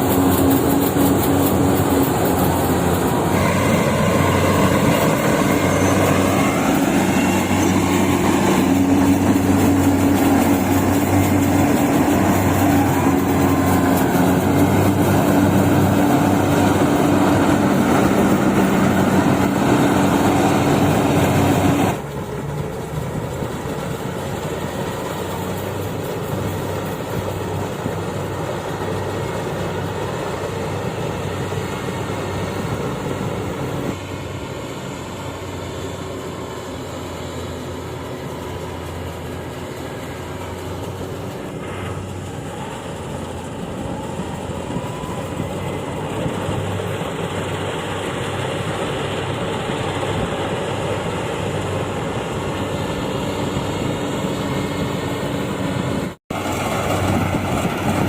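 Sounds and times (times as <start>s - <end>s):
diesel engine humming: 0.0s - 58.0s
harvester cutting and threshing machinery: 0.0s - 58.0s.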